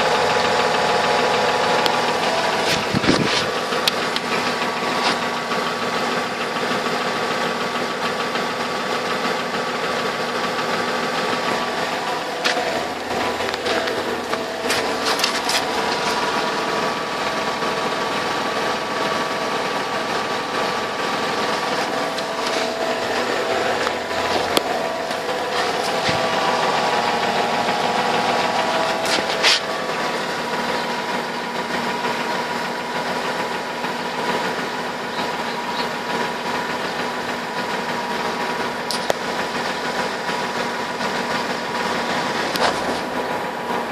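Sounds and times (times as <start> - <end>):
car engine running: 0.0 - 43.9
engine knock: 0.0 - 43.9.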